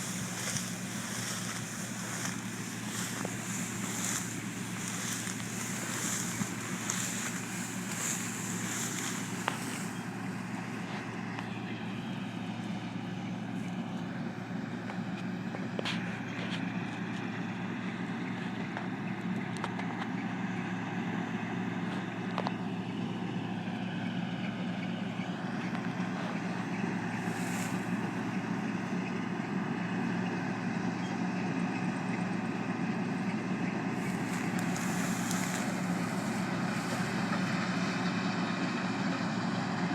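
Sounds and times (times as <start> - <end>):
heavy machinery engine droning: 0.0 - 39.9.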